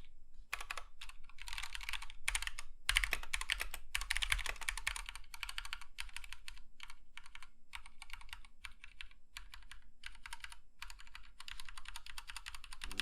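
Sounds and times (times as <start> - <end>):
mechanical keyboard typing: 0.5 - 13.0.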